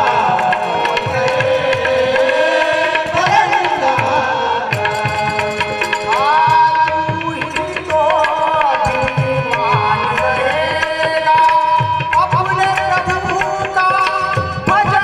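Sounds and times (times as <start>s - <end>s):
harmonium holding notes: 0.0s - 15.0s
person singing: 0.0s - 15.0s.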